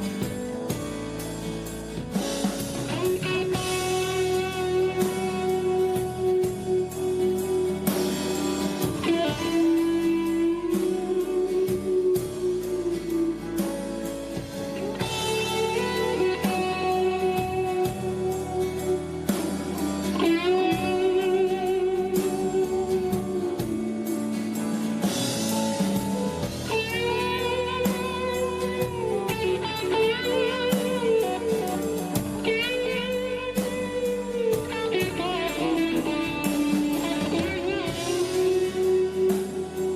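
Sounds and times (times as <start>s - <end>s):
lead electric guitar: 0.0s - 39.9s
rock band playing: 0.0s - 39.9s.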